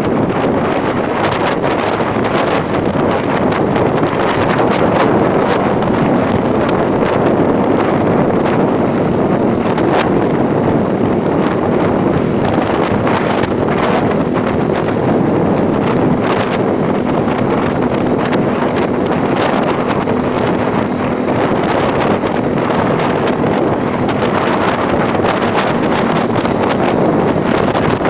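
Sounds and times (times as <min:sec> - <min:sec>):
road noise: 0:00.0 - 0:28.0
vehicle engine: 0:00.0 - 0:28.0
wind rushing on microphone: 0:00.0 - 0:28.0.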